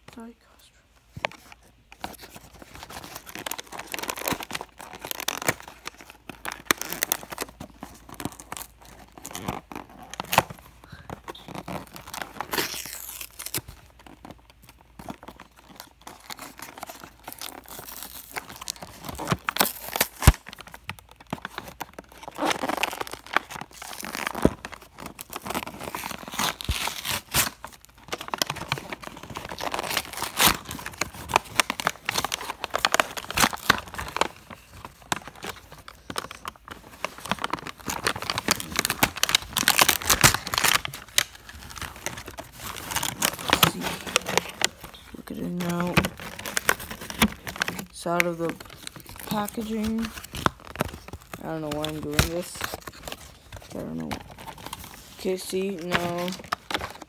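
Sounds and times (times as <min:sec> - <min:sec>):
packaging tearing and crinkling: 0:01.2 - 0:57.0.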